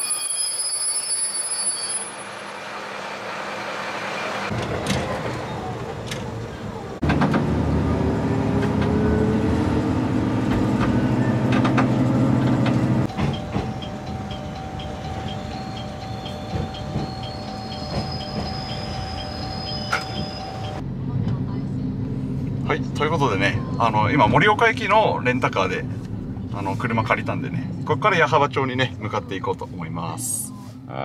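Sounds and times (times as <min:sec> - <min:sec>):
train hum with rising whine: 0:00.0 - 0:31.0.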